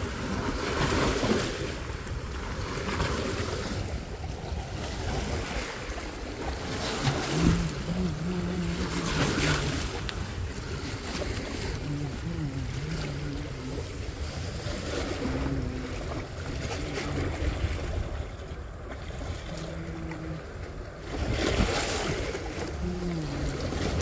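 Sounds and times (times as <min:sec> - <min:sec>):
waves splashing against rocks: 0:00.0 - 0:24.0
wind buffeting microphone: 0:00.0 - 0:24.0.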